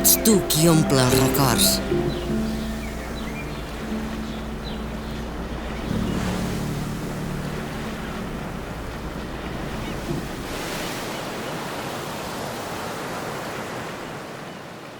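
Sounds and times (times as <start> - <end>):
sea surf washing onto shore: 0.0 - 14.2.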